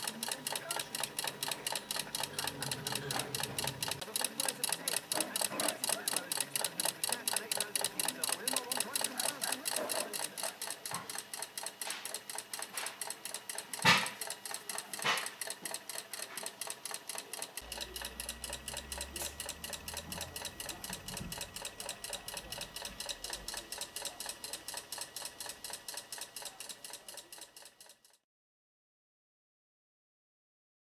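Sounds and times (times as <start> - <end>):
model mechanism rhythmic clicking: 0.0 - 28.2.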